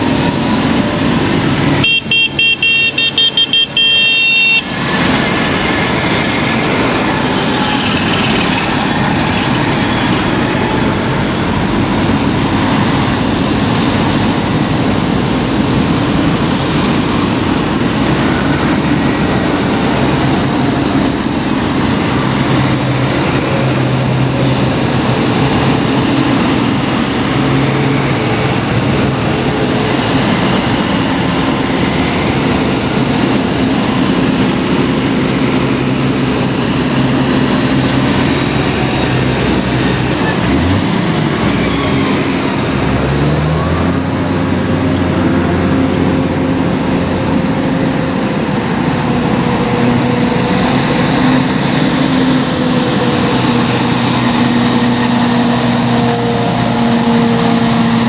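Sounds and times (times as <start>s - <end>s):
vehicles driving past: 0.0s - 58.0s.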